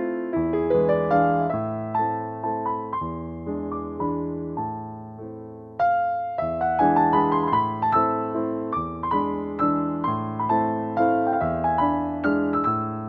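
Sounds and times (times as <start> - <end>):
calm piano music: 0.0 - 13.0.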